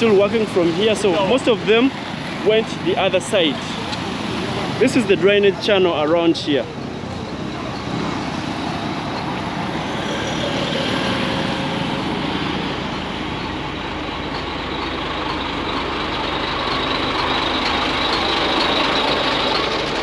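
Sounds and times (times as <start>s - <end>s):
traffic on a busy road: 0.0s - 20.0s.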